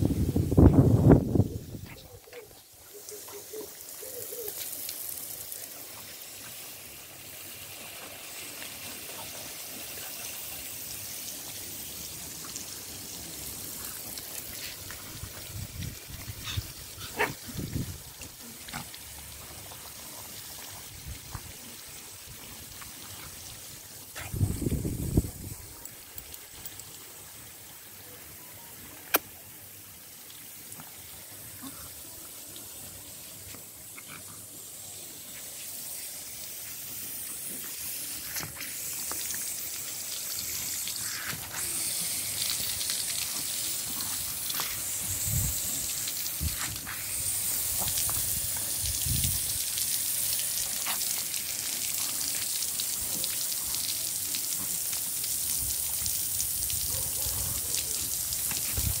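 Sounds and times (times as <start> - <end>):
lawn sprinkler spraying water: 0.0 - 59.0.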